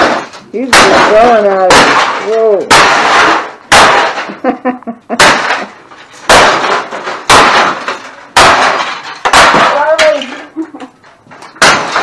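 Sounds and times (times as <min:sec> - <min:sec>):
demolition tool smashing impacts: 0:00.0 - 0:04.4, 0:05.2 - 0:10.4, 0:11.4 - 0:12.0
breaking pieces clattering: 0:00.0 - 0:04.5, 0:05.2 - 0:10.5, 0:11.3 - 0:12.0.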